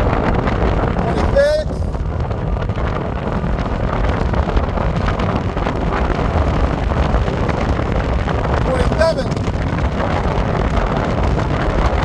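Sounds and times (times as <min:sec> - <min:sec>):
loud wind on microphone: 0:00.0 - 0:12.0.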